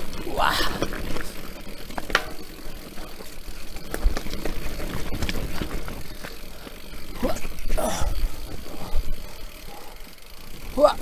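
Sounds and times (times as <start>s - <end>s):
steady low rumble: 0.0s - 10.7s
bike frame and chain rattling: 0.0s - 11.0s.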